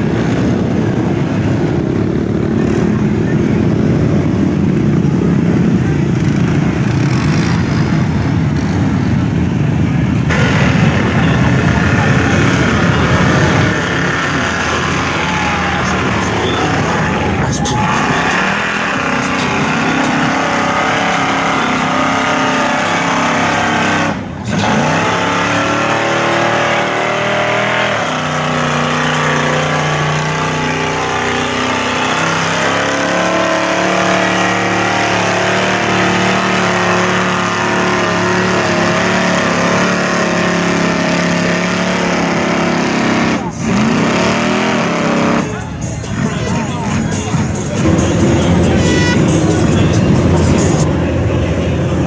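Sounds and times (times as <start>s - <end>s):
off-road engine revving: 0.0s - 52.0s.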